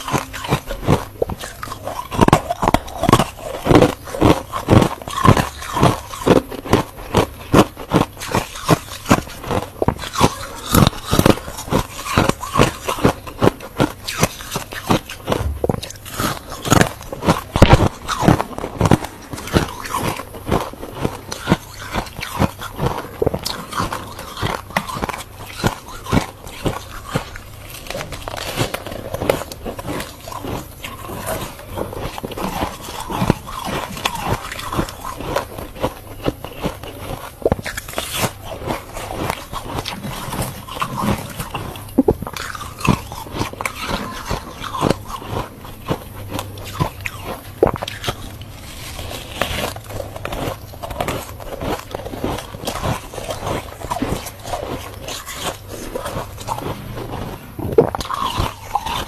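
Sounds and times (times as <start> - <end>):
frost being chewed: 0.0 - 59.0.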